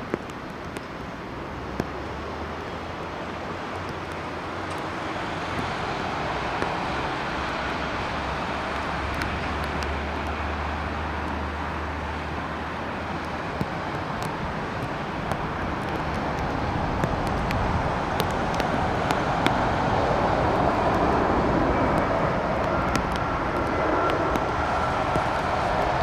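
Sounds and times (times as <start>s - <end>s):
jet engine rushing: 4.4s - 26.0s.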